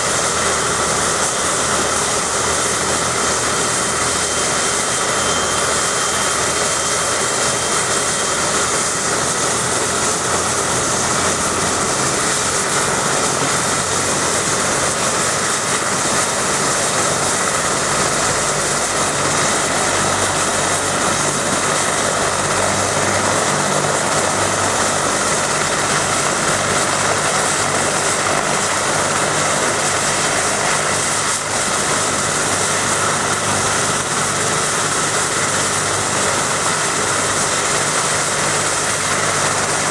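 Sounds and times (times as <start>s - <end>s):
helicopter rotors turning: 0.0s - 39.9s
helicopter turbine whine: 0.0s - 39.9s.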